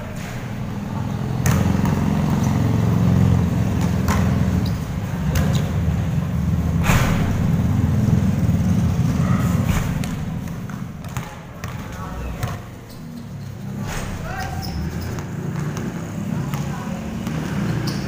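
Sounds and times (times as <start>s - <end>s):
basketball bouncing on concrete: 0.8s - 12.9s, 13.9s - 18.0s.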